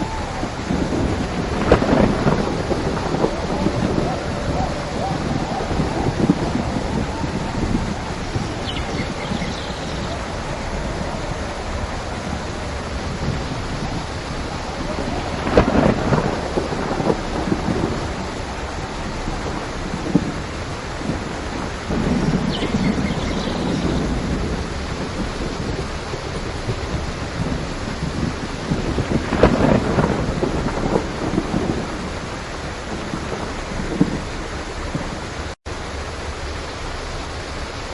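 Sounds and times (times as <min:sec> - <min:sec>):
thunder crack and rumble: 0:00.0 - 0:35.6
heavy rain: 0:00.0 - 0:37.9.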